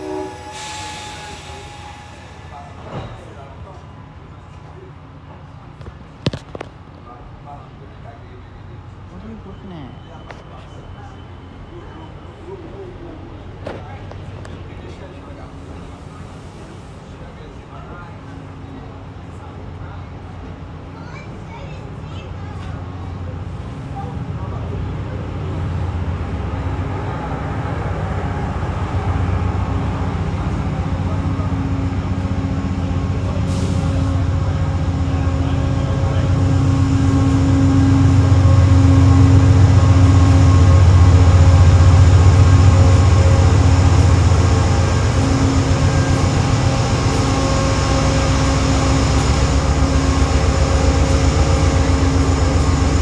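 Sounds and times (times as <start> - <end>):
train electric hum and rumble: 0.0 - 53.0.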